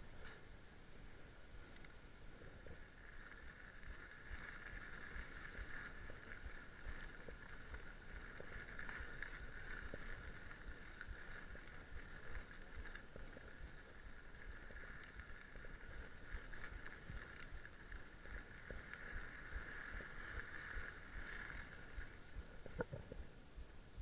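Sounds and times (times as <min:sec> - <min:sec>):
bike rolling over gravel: 0:01.8 - 0:23.3.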